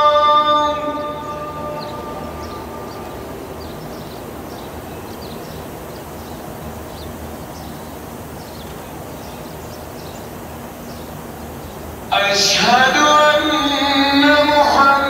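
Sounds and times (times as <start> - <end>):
high bird chirps: 0.0 - 13.2
misting fans hissing: 0.0 - 15.0.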